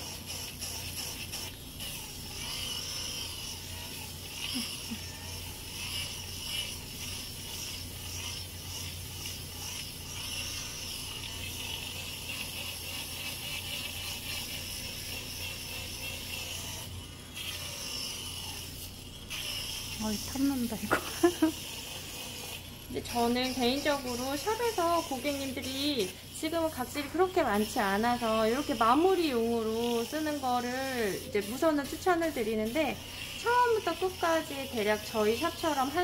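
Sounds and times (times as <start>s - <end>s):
electric foot file whining: 0.0s - 36.0s.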